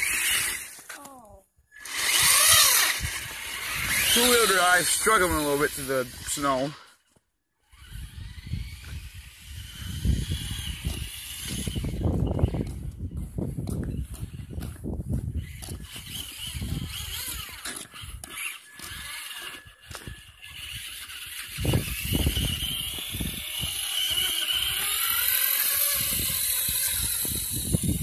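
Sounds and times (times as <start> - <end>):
electric motor and gears whining: 0.0 - 28.0.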